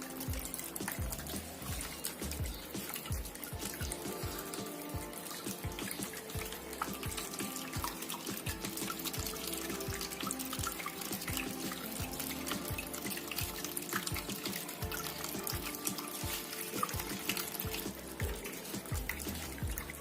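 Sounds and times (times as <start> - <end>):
fountain water splashing: 0.0 - 20.0
music with steady beat: 0.0 - 20.0.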